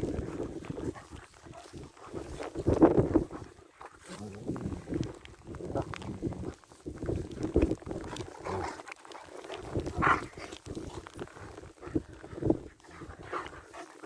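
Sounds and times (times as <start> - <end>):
dogs playing rough: 0.0 - 14.0.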